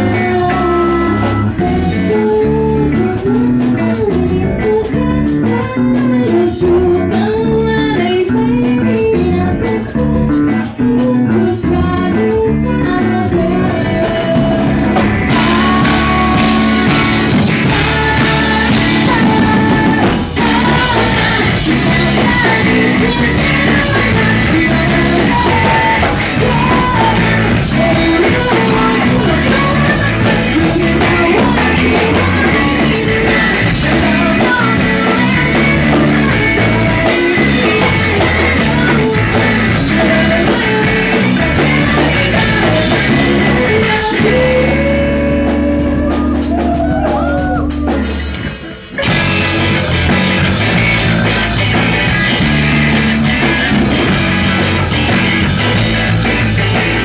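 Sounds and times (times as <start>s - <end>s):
drum kit: 0.0s - 57.0s
electric bass: 0.0s - 57.0s
electric guitars: 0.0s - 57.0s.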